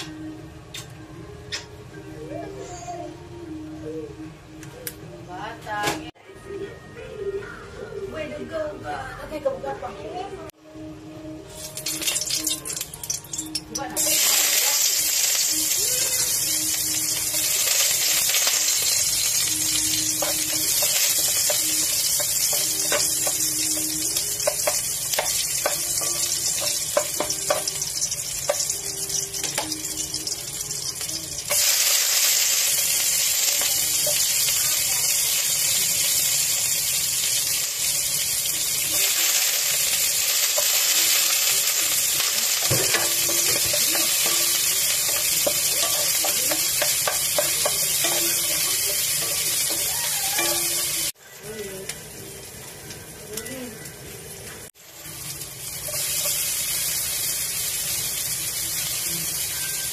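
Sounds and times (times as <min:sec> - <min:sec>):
garlic sizzling in oil: 0:11.4 - 0:59.9.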